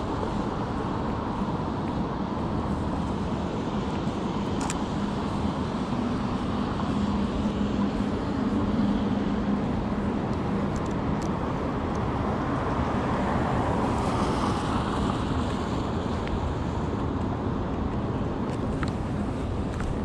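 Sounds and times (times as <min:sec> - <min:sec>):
low engine hum: 0:00.0 - 0:20.0
passing vehicles rumble: 0:00.0 - 0:20.0.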